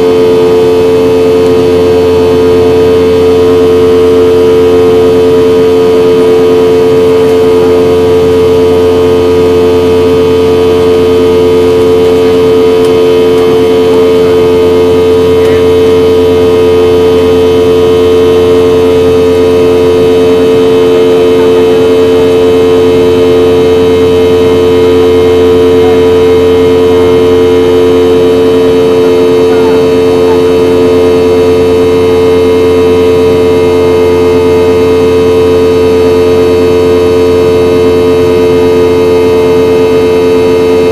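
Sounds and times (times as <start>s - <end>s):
jet engines droning in cabin: 0.0s - 40.9s.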